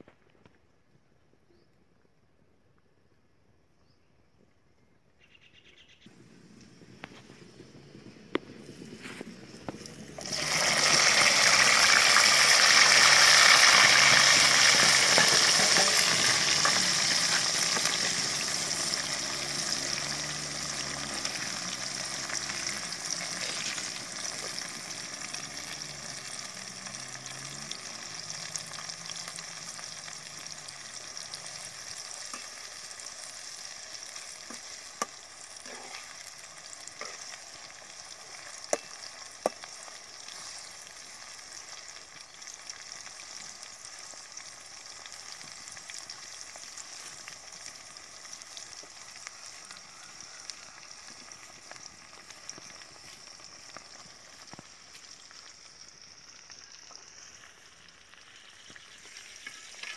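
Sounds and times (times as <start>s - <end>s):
onions sizzling in a pan: 6.4s - 59.9s.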